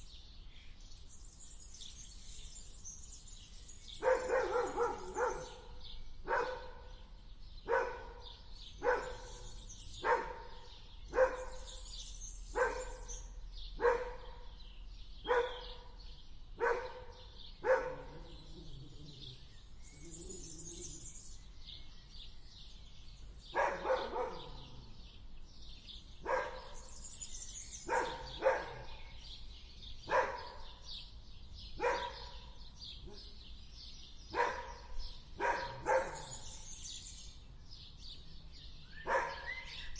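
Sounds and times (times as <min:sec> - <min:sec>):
birds chirping faintly: 0:00.0 - 0:39.9.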